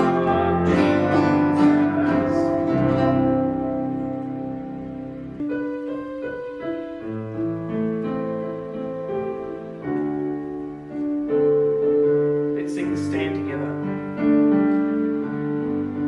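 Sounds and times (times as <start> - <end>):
piano slow chords: 0.0 - 16.0.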